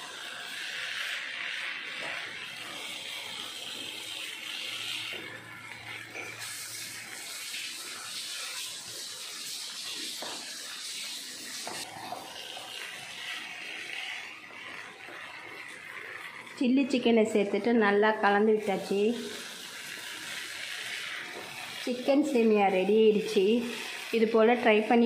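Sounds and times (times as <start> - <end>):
food sizzling in a pan: 0.0 - 25.0
spatula scraping a pan: 0.0 - 25.0.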